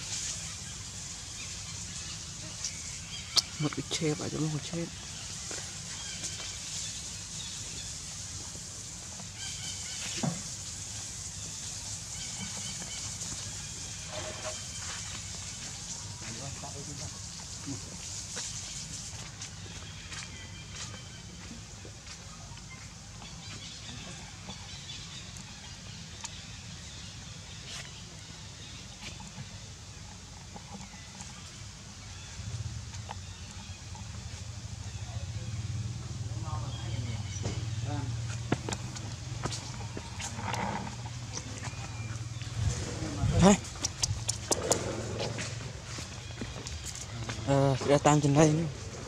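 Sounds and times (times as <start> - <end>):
outdoor background hiss: 0.0 - 49.0.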